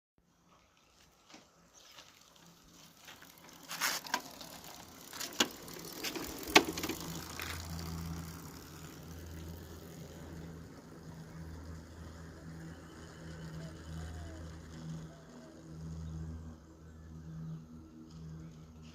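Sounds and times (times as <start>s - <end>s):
motorcycle engine idling hum: 0.5s - 18.9s.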